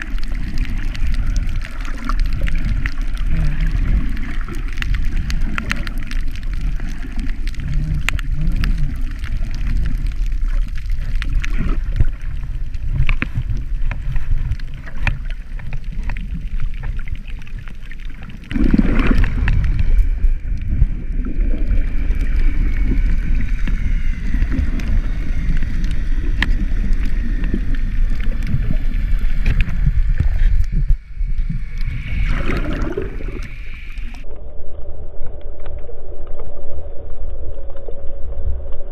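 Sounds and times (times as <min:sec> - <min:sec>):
crackling clicks: 0:00.0 - 0:34.5
underwater rumbling water noise: 0:00.0 - 0:38.9.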